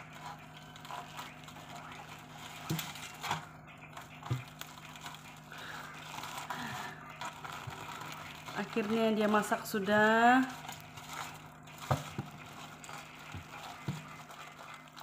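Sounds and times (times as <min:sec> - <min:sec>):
fruit flesh rustling: 0:00.0 - 0:15.0
low steady hum: 0:00.0 - 0:15.0.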